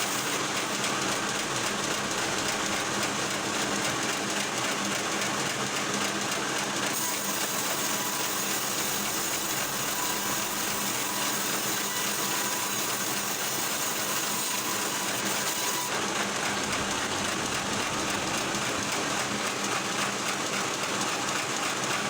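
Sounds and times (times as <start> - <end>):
power saw cutting wood: 0.0 - 22.0.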